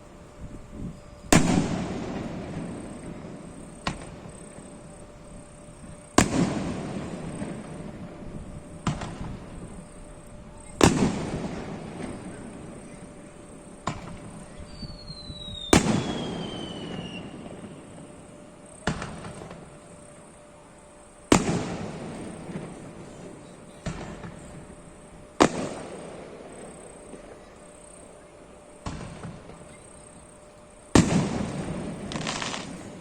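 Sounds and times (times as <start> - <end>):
falling firework whistle: 0.0 - 20.4, 21.3 - 33.0
fireworks booming: 0.7 - 20.4, 21.2 - 33.0.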